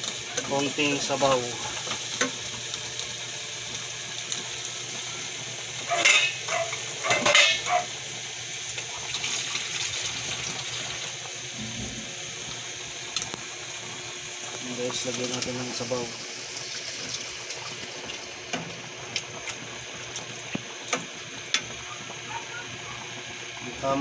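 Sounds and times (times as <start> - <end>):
vegetables sizzling in frying pan: 0.0 - 24.0.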